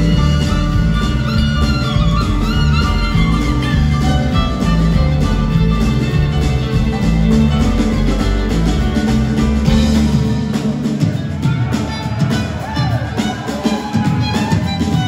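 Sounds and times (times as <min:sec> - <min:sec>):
fiddle bowing: 0:00.0 - 0:15.0
live band playing: 0:00.0 - 0:15.0.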